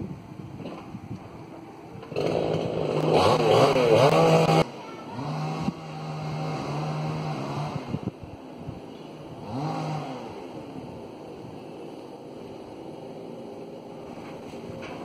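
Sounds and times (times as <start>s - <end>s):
steady low engine hum: 0.0s - 15.0s
vehicles passing close by: 0.0s - 15.0s.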